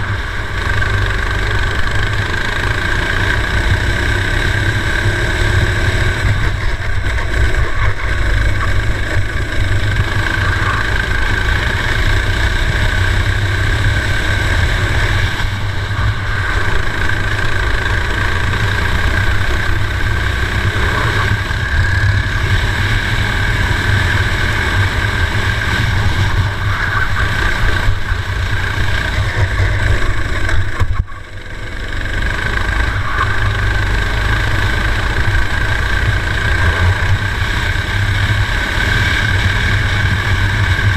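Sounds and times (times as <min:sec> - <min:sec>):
kart engine running: 0:00.0 - 0:40.9.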